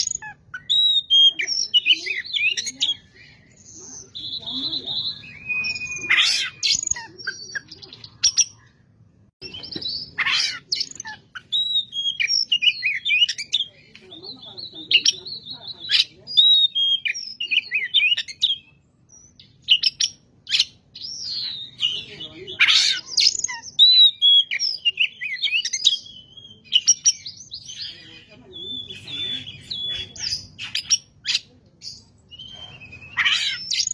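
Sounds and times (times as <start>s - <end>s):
bird singing whistles and trills: 0.0s - 8.7s, 10.8s - 13.7s, 14.3s - 33.9s
harsh bird calls: 0.0s - 33.9s.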